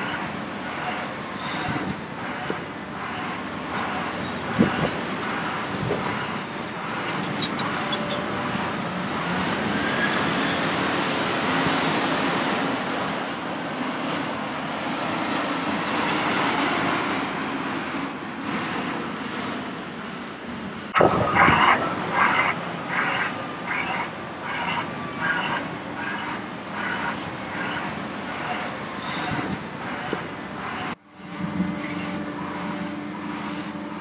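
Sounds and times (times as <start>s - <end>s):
excavator engine and hydraulics: 0.0s - 34.0s.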